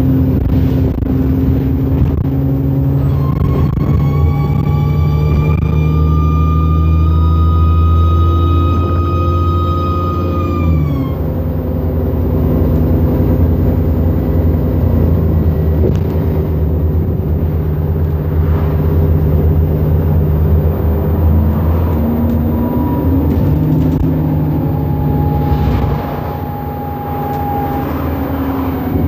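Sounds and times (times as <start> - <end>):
bus engine drone: 0.0 - 29.0
thin whine: 0.0 - 29.0.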